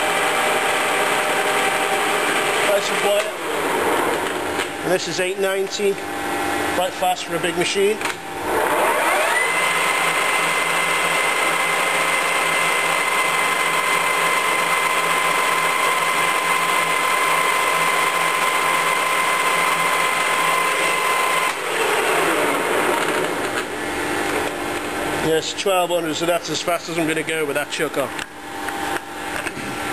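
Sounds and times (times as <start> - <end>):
lathe whine: 0.0 - 29.9.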